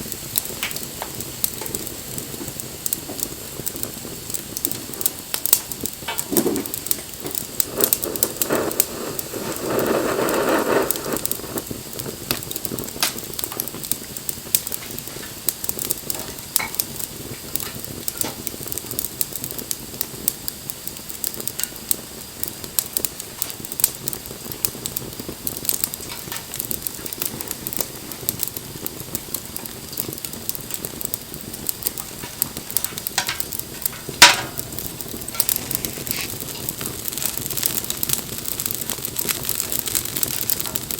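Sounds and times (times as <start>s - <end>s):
rush of hissing noise: 0.0s - 40.9s
wood fire crackling: 0.0s - 40.9s.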